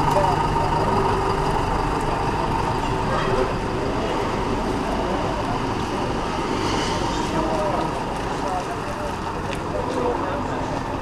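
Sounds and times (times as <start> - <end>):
coach engine running: 0.0 - 11.0.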